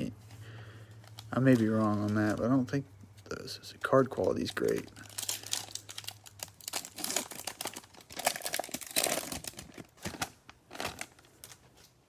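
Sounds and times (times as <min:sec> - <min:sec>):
card wrappers crinkling and tearing: 0:00.8 - 0:12.0.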